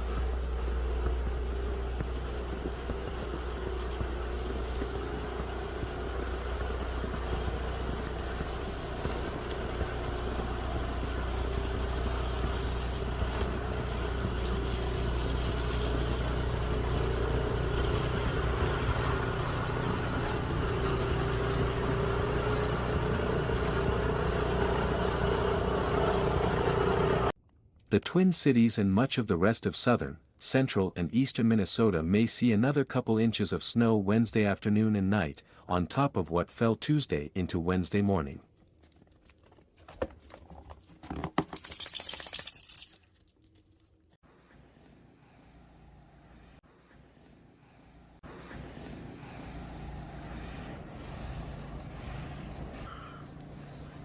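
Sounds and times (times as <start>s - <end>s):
vehicle engine rumbling: 0.0s - 28.2s, 31.4s - 54.0s.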